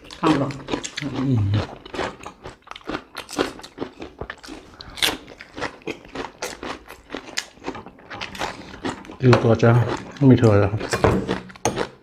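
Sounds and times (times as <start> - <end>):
cucumber crunching: 0.0 - 12.0.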